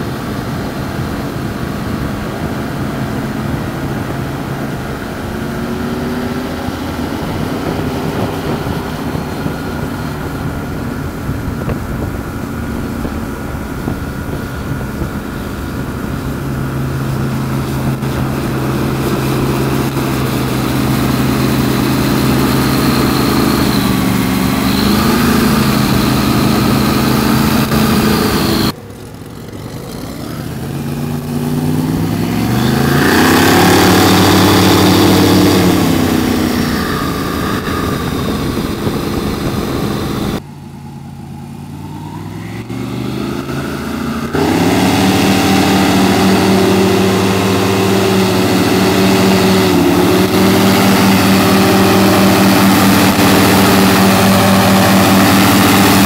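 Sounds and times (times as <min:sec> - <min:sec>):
airboat engine and propeller: 0:00.0 - 0:56.0.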